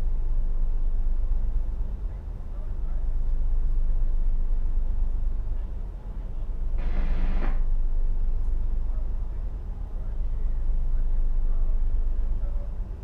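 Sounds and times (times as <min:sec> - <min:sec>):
ship engine rumbling: 0:00.0 - 0:13.0.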